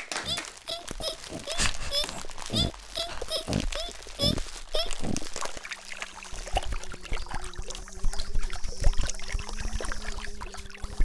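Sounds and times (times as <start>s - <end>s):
water splashing and trickling: 0.2s - 11.0s.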